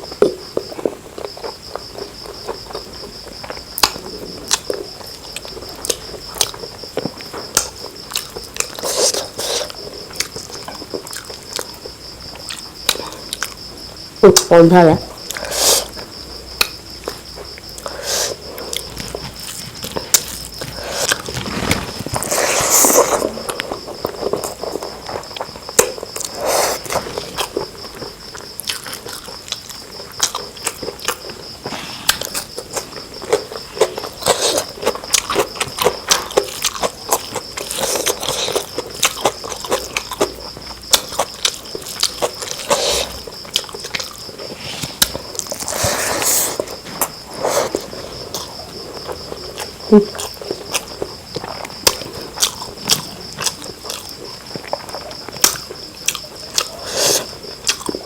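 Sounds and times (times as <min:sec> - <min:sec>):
chewing and mouth smacking: 0:00.0 - 0:13.7, 0:15.2 - 0:58.0.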